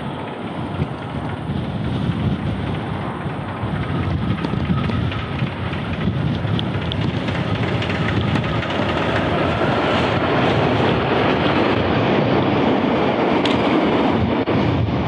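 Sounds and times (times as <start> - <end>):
steam locomotive working hard: 0.0 - 15.0.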